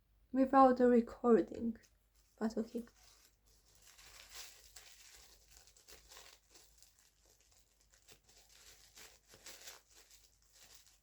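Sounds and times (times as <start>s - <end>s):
plastic packaging crinkling: 1.7s - 11.0s.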